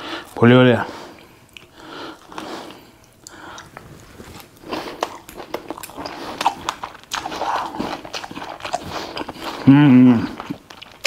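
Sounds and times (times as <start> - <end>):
person chewing salad crunchily: 1.1 - 11.0.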